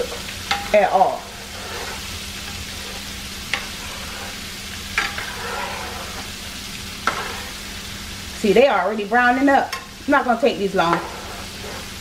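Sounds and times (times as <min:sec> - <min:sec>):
shrimp sizzling in hot oil: 0:00.0 - 0:12.0.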